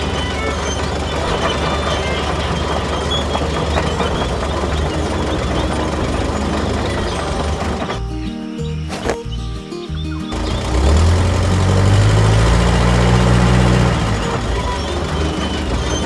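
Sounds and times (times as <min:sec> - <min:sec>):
small engine with knocking chatter: 0:00.0 - 0:08.0, 0:10.3 - 0:16.0.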